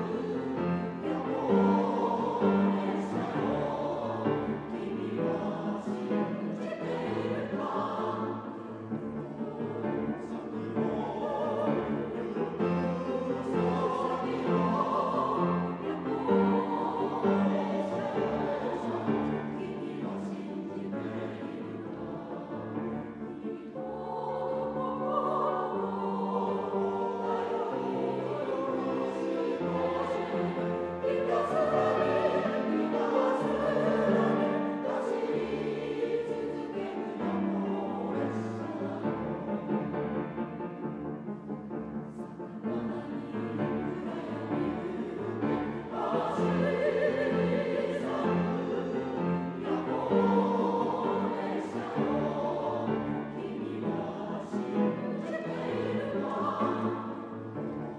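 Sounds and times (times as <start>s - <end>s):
grand piano accompaniment: 0.0s - 57.9s
mixed choir singing: 0.0s - 57.9s.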